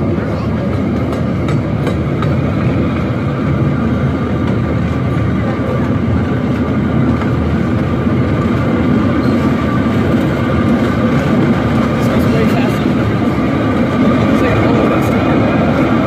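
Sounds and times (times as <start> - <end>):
small train rumbling on track: 0.0 - 16.0.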